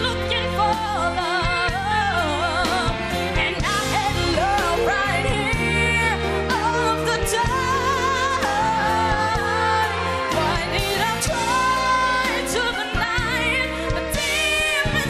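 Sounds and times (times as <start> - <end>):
girl singing a pop ballad: 0.0 - 15.0
live band with keyboard: 0.0 - 15.0.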